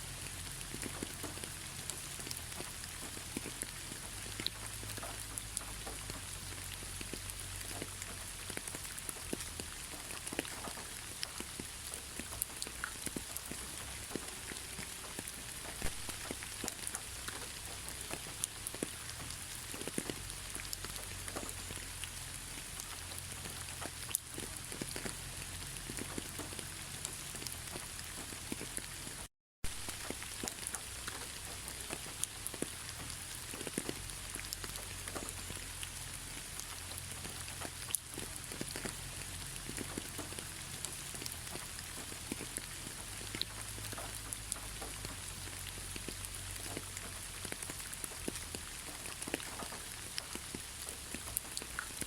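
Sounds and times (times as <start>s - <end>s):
steady rain hiss: 0.0s - 52.0s
sharp drip ticks: 0.2s - 29.2s, 29.9s - 52.0s.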